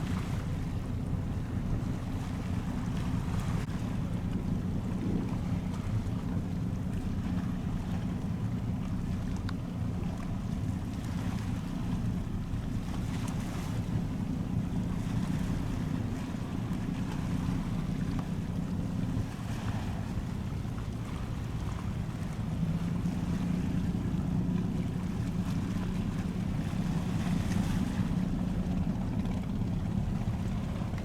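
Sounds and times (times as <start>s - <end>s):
boat engine rumbling: 0.0s - 31.0s
wind buffeting microphone: 0.0s - 31.0s.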